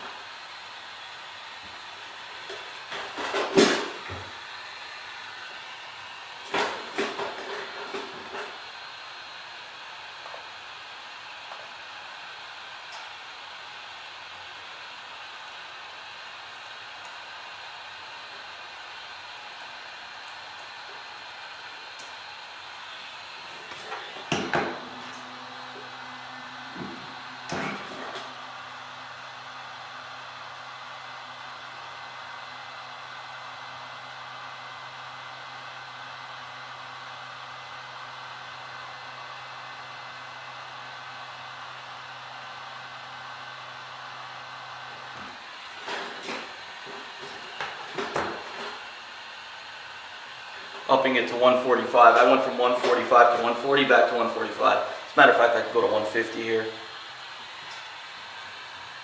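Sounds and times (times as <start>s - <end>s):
heat gun blowing: 0.0s - 34.1s, 43.1s - 59.0s.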